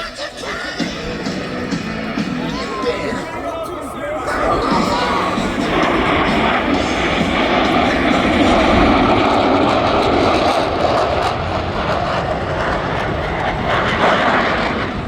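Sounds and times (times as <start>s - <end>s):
jet roar flying past: 0.0s - 15.0s.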